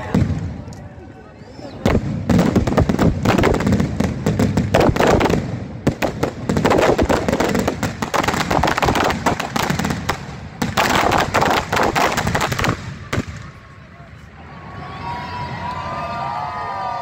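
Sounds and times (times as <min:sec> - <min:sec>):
fireworks bangs and crackles: 0:00.0 - 0:13.9.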